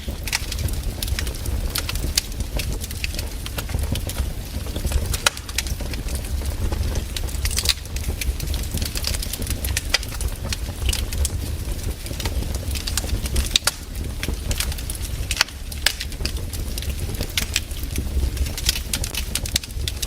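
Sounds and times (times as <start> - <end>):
campfire crackling and popping: 0.0 - 20.0
steady low rumble: 0.0 - 20.0.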